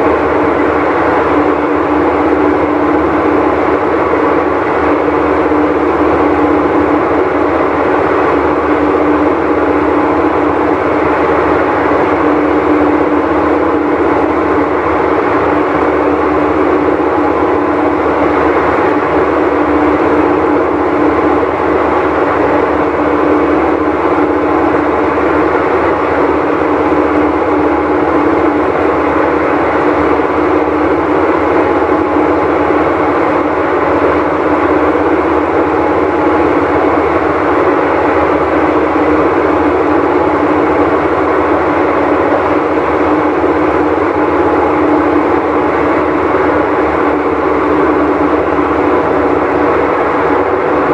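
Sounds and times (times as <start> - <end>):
constant hum: 0.0 - 50.9
washing machine running loudly: 0.0 - 50.9.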